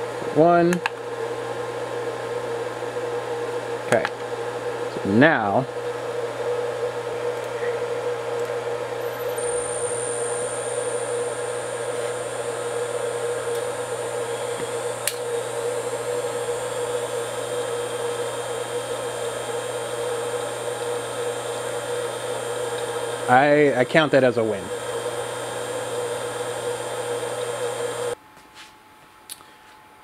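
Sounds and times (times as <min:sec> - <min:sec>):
steady electrical hum: 0:00.0 - 0:30.0
faint high whine: 0:03.9 - 0:28.2
spindle motor spinning up: 0:04.0 - 0:28.2.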